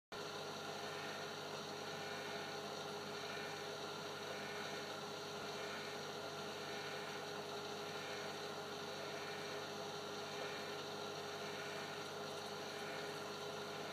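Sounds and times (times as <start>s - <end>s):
electrical hum with held tones: 0.1s - 13.9s.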